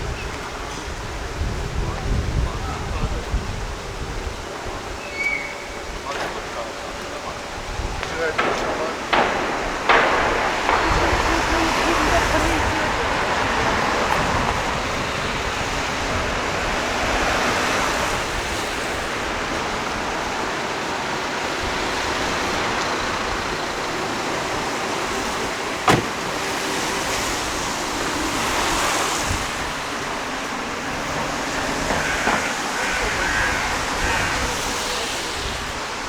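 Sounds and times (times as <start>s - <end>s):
road traffic passing cars: 0.0s - 36.0s.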